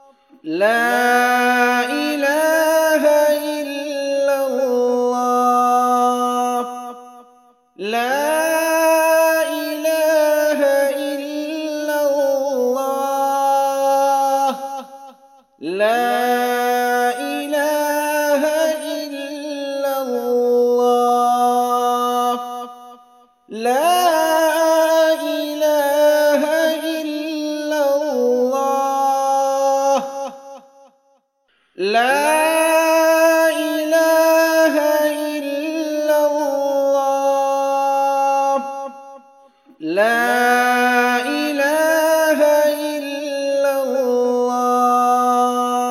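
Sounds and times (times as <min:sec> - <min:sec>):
person chanting devotional recitation: 0:00.0 - 0:45.9.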